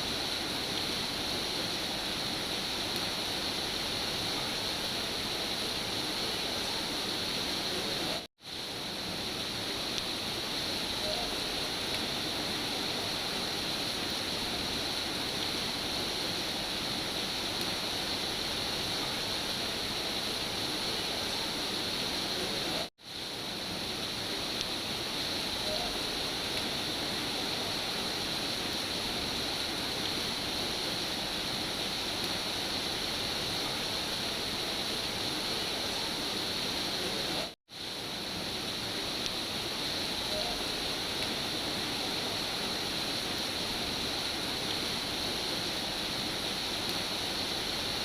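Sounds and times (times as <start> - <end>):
steady rain hiss: 0.0 - 48.0.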